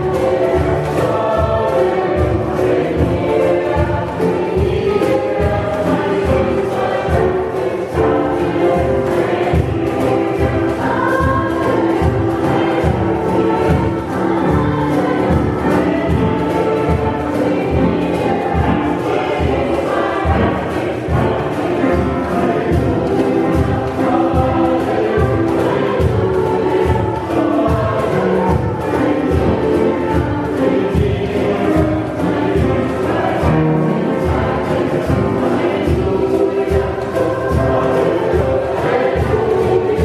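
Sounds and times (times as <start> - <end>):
hand drum beat: 0.0 - 40.0
mixed choir singing: 0.0 - 40.0
piano: 0.0 - 40.0.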